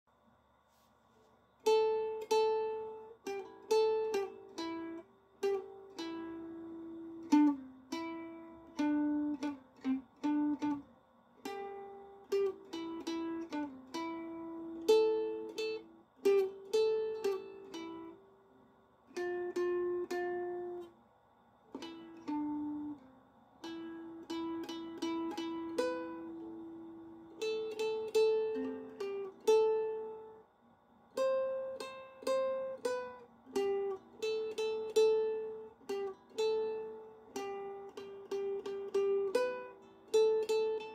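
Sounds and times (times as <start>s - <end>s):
plucked string melody: 1.6s - 18.3s, 19.1s - 21.0s, 21.7s - 30.4s, 31.1s - 40.9s.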